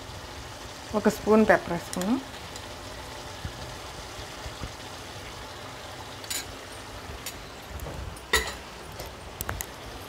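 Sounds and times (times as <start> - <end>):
liquid bubbling and sizzling: 0.0 - 10.0.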